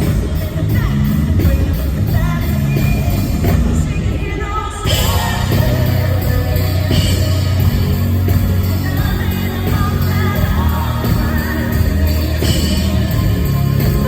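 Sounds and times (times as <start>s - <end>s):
steady bass: 0.0s - 4.1s, 4.9s - 14.0s
live country band playing: 0.0s - 14.0s.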